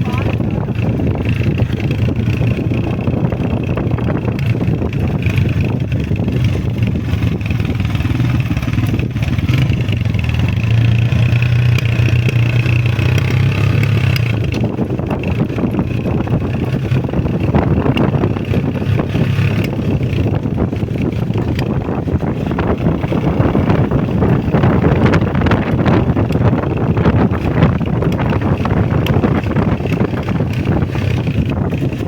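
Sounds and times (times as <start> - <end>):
motorcycle engine droning: 0.0 - 32.0.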